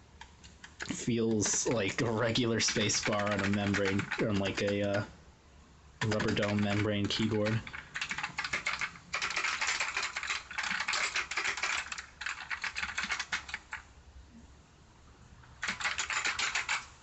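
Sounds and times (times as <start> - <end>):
fast typing on mechanical keyboard: 0.6 - 5.1, 6.0 - 13.8, 15.6 - 17.0.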